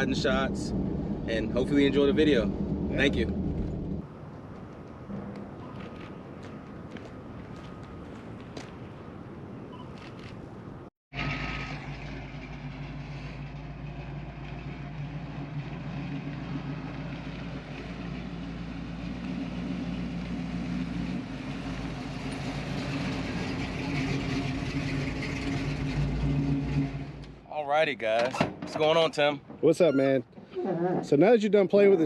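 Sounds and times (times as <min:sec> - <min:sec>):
truck engine running at low speed: 0:00.0 - 0:27.4.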